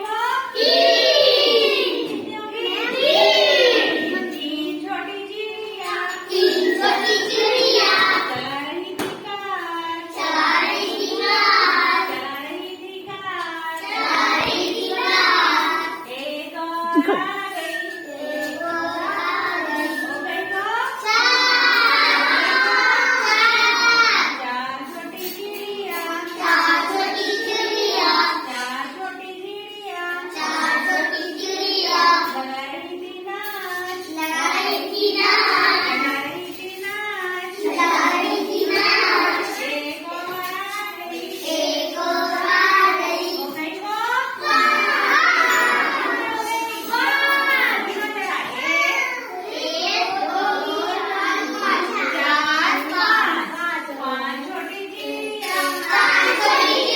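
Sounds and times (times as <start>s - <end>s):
child singing a rhyme: 0.0s - 56.9s.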